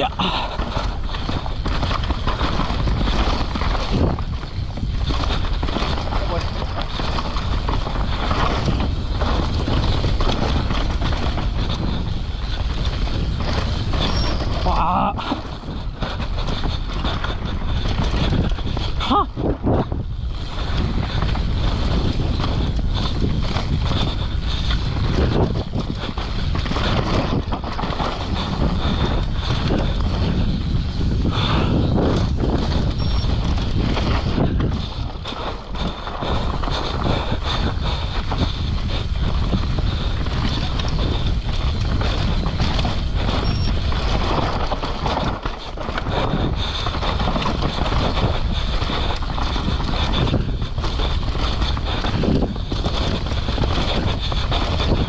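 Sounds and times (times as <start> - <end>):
bike knocking and rattling: 0.0 - 55.0
tyres rumbling on dirt: 0.0 - 55.0
wind rush on microphone: 0.0 - 55.0.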